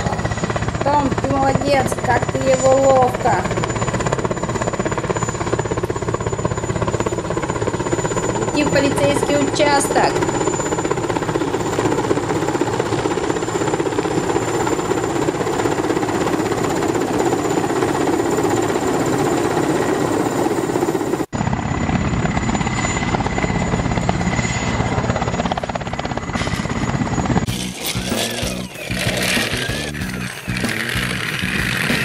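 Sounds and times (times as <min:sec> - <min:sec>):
helicopter rotor chop: 0:00.0 - 0:32.0.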